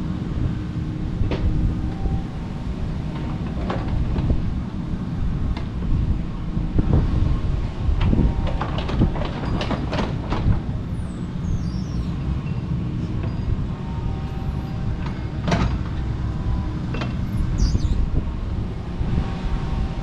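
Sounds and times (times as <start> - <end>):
excavator diesel engine drone: 0.0 - 20.0.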